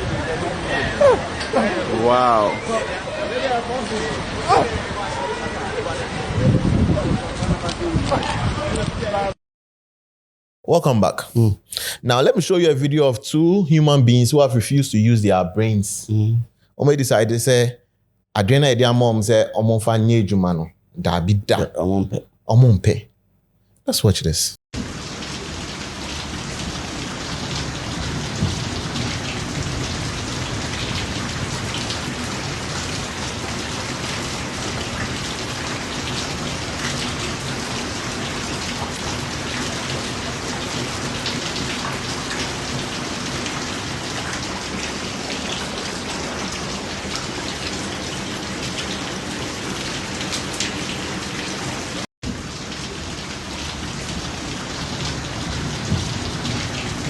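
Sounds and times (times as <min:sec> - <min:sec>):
heavy rain pouring: 0:00.0 - 0:07.4, 0:10.7 - 0:17.7, 0:24.8 - 0:57.0.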